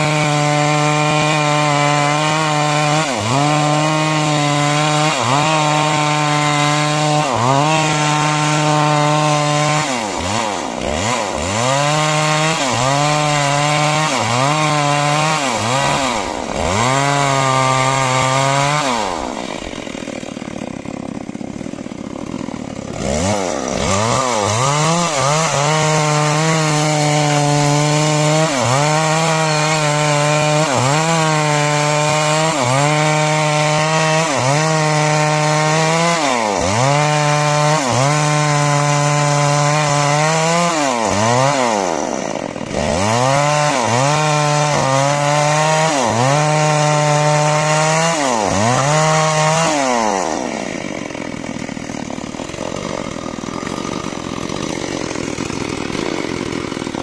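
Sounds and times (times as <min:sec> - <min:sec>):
chainsaw cutting timber: 0:00.0 - 0:57.0.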